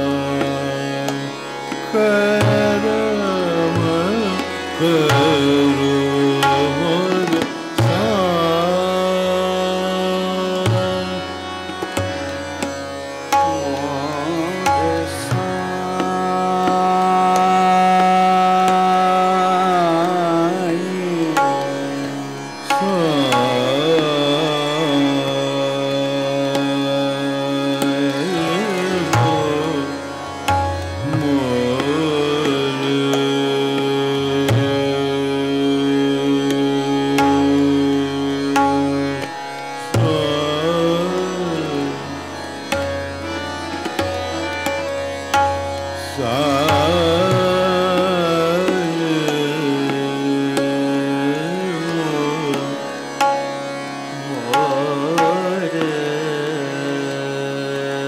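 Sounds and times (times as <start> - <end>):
man singing ornamented phrases: 0.0 - 12.3, 13.3 - 58.0
harmonium and tanpura drone: 0.0 - 58.0.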